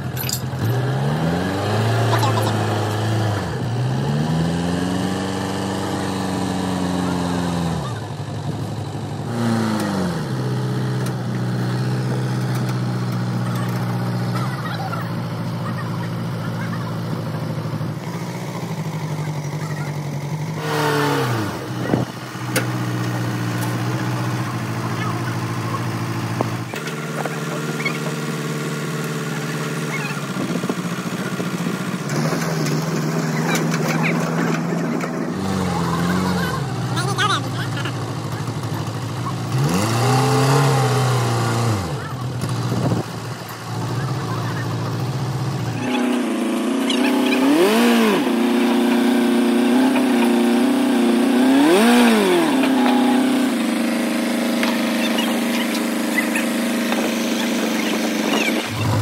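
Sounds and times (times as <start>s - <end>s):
motor running: 0.0s - 59.0s.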